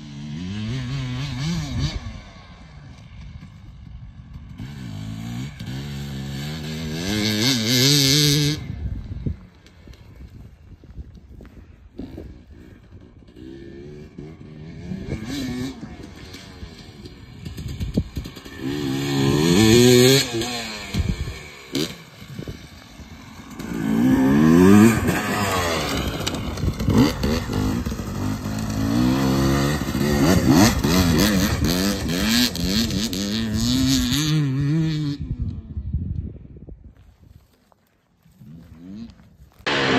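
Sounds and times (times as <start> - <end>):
motorcycle engine revving: 0.0 - 10.2, 11.5 - 35.8, 38.4 - 39.9.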